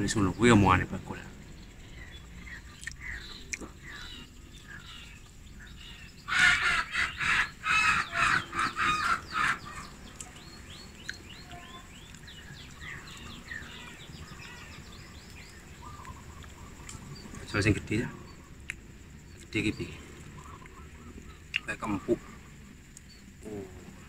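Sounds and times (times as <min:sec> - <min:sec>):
bird calling harshly: 0:00.0 - 0:18.6, 0:19.4 - 0:22.6
faint high chirping of small birds: 0:00.0 - 0:24.0.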